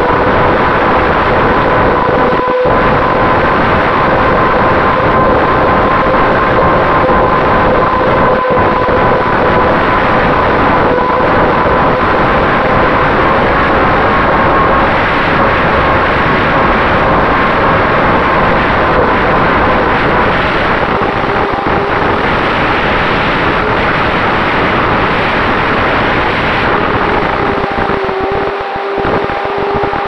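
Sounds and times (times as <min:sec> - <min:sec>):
electric motor whine: 0:00.0 - 0:30.0
rush of air: 0:00.0 - 0:30.0.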